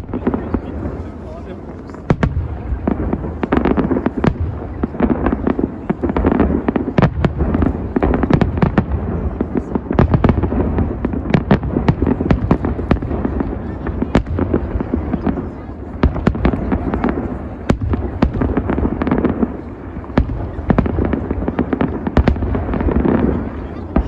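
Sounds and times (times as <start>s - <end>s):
fireworks bursts and bangs: 0.0s - 24.0s.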